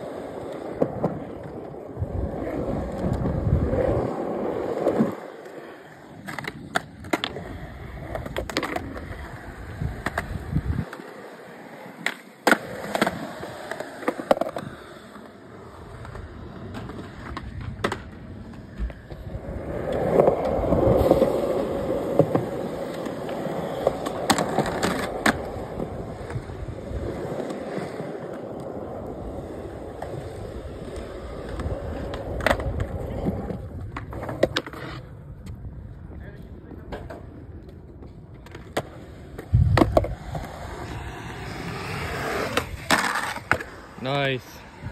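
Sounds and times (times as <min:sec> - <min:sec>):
skateboard clacks: 0:00.0 - 0:44.9
skateboard wheels rolling on concrete: 0:00.0 - 0:44.9.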